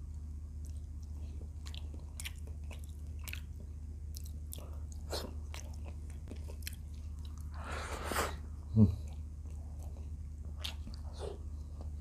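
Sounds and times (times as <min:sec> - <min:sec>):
person chewing food: 0:00.6 - 0:12.0.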